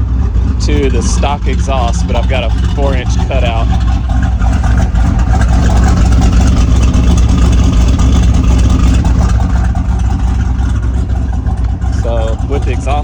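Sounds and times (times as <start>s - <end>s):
loud choppy engine idling: 0.0s - 13.0s.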